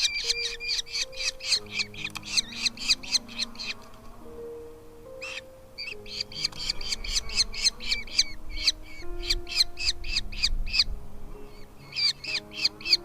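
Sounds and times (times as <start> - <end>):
nestling birds begging calls: 0.0 - 13.0
soft background music: 0.0 - 13.0.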